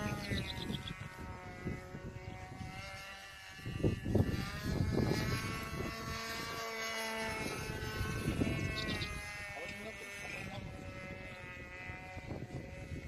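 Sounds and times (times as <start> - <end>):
model airplane engine droning: 0.0 - 13.0.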